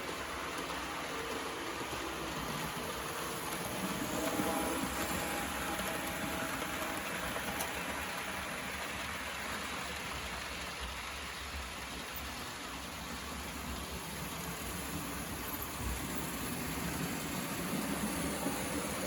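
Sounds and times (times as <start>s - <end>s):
faint motor whine: 0.0s - 19.0s
model train wheels rolling on rails: 0.0s - 19.0s.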